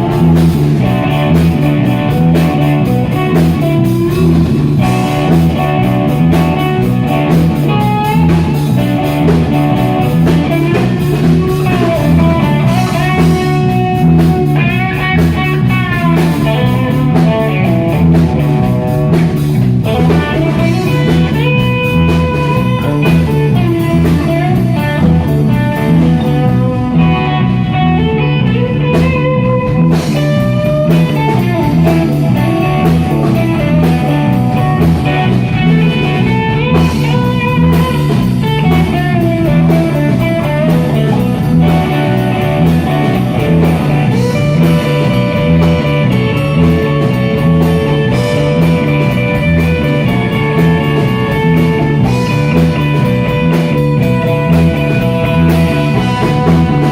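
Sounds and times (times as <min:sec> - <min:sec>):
live blues-rock band playing: 0:00.0 - 0:56.9.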